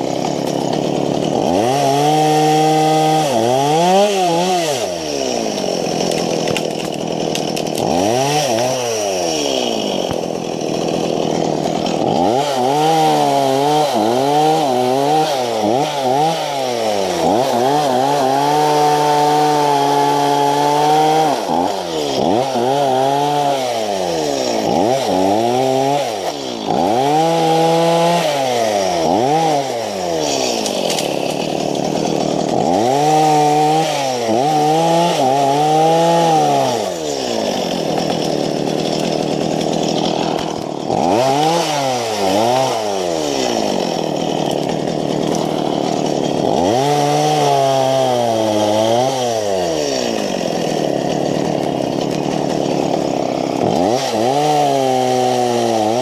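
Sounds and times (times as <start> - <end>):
chainsaw revving and cutting: 0.0 - 56.0.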